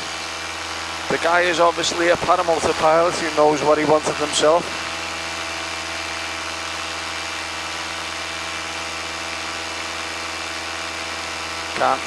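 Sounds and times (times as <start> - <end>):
paramotor engine drone: 0.0 - 12.0.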